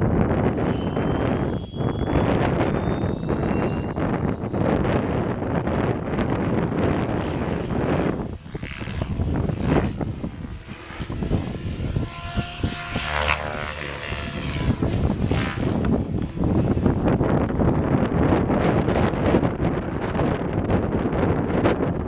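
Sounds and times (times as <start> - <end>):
model airplane motor whining: 0.0 - 22.0
wind buffeting microphone: 0.0 - 22.0.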